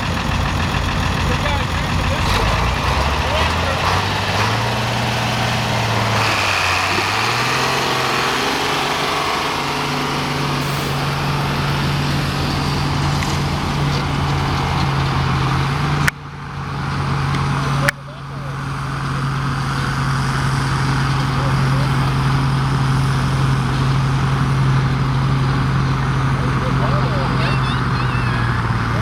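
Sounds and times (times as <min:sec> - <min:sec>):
tractor engine under heavy load: 0:00.0 - 0:29.0.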